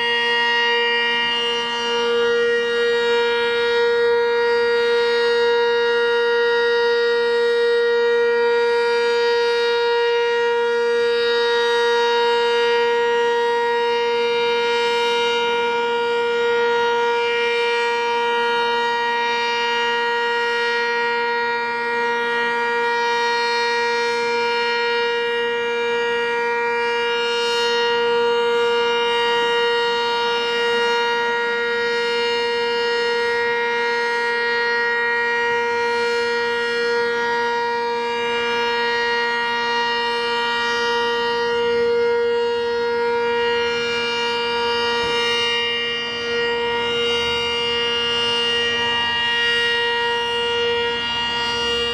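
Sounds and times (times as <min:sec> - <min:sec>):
two-tone warning siren: 0:00.0 - 0:51.9.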